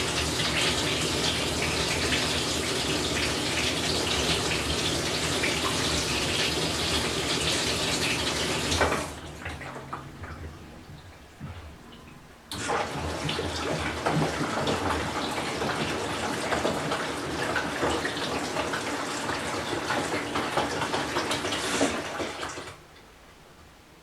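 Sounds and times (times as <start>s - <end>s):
water running into washer drum: 0.0s - 22.8s.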